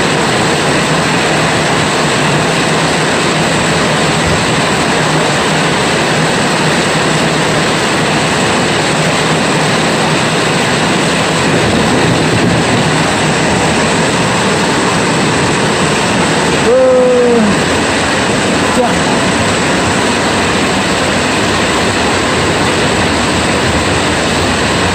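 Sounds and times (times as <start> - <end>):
heavy rain hissing: 0.0 - 24.9.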